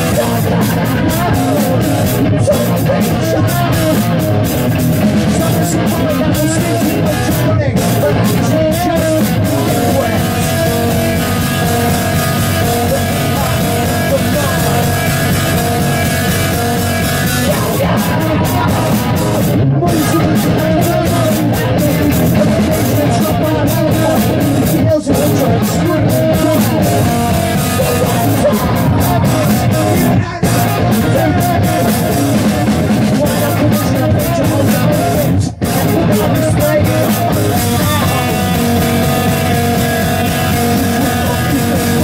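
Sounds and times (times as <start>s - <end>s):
drum kit: 0.0s - 42.0s
electric guitars: 0.0s - 42.0s
person singing: 0.0s - 42.0s.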